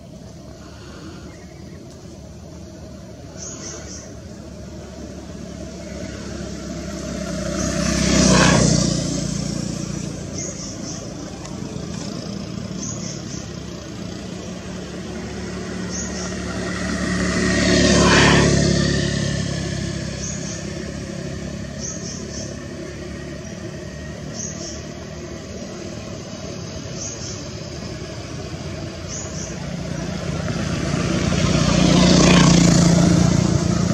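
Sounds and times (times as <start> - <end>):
motor vehicles passing: 0.0 - 33.9.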